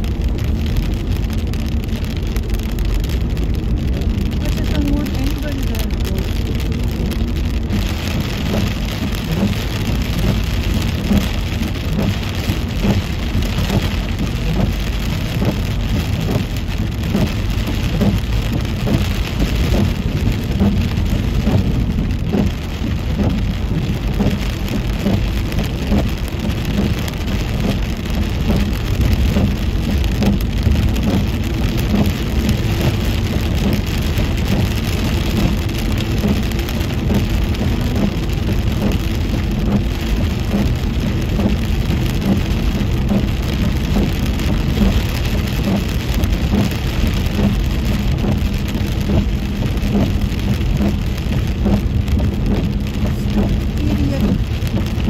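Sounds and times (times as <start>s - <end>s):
rain pattering on car: 0.0s - 55.0s
tyres rumbling on wet road: 0.0s - 55.0s.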